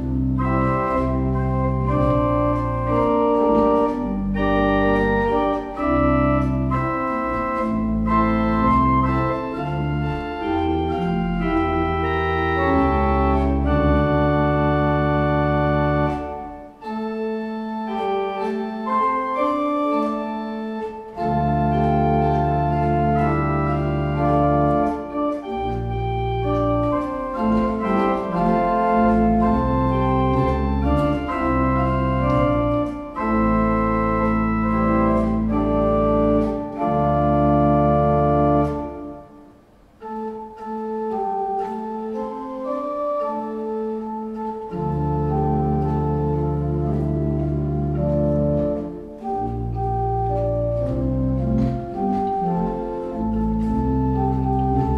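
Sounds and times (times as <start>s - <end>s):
church organ playing chords: 0.0s - 54.9s.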